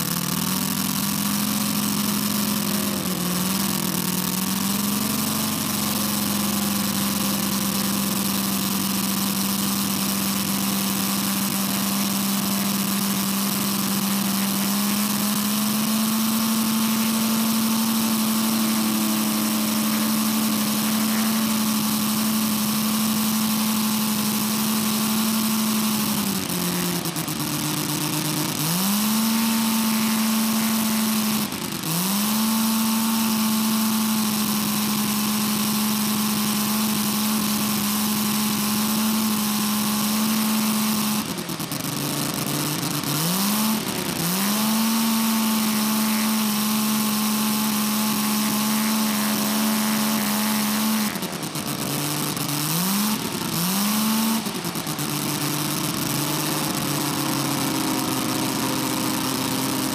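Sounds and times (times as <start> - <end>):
model aero engine running: 0.0 - 59.9.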